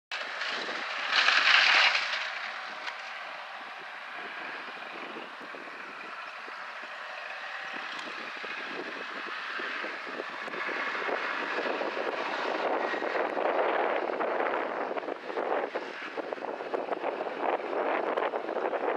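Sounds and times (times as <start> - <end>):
tractor running hedge cutter: 0.1 - 18.9.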